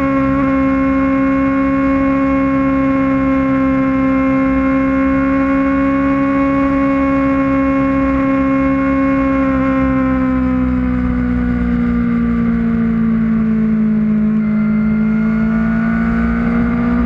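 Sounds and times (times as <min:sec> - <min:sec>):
low wind rumble: 0:00.0 - 0:17.0
motorcycle engine at high revs: 0:00.0 - 0:17.0.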